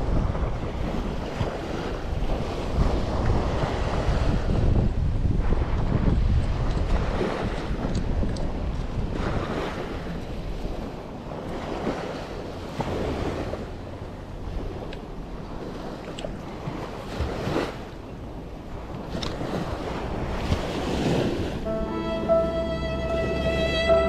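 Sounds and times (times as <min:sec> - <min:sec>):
wind buffeting microphone: 0:00.0 - 0:21.6
small waves breaking on shore: 0:00.0 - 0:24.0.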